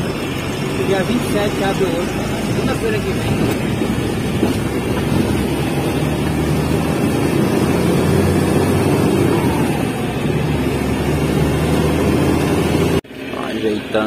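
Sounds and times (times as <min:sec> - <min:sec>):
diesel engine running: 0:00.0 - 0:14.0
truck rumbling on dirt road: 0:00.0 - 0:14.0.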